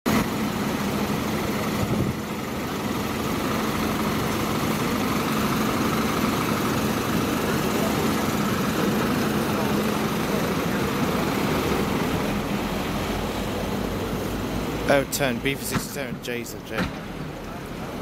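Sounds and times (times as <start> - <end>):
coach diesel engine humming: 0.1 - 18.0.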